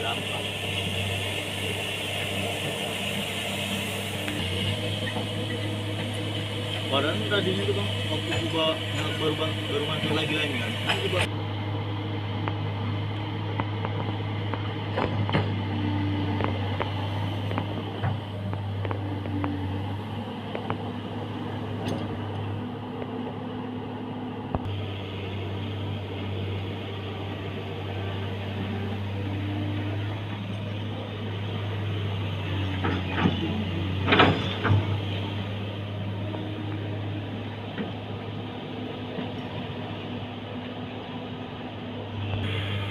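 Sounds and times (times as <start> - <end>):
hydraulic whines: 0.0 - 23.4, 24.5 - 42.9
excavator engine hum: 0.0 - 42.9.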